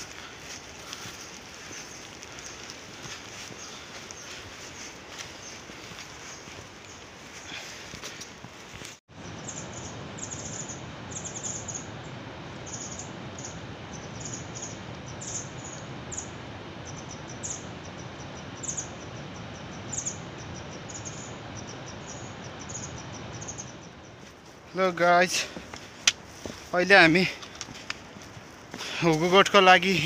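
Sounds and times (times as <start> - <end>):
insects chirping: 0.0 - 8.5, 9.1 - 30.0.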